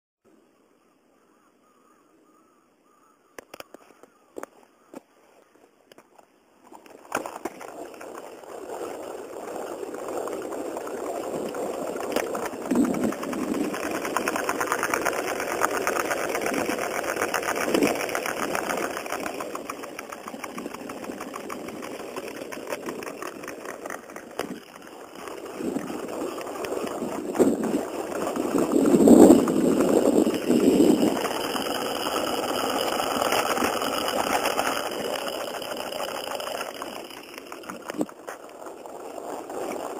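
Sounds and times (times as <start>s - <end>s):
wheels rolling on pavement: 3.4s - 39.9s
wheel ticking rattle: 6.7s - 39.9s.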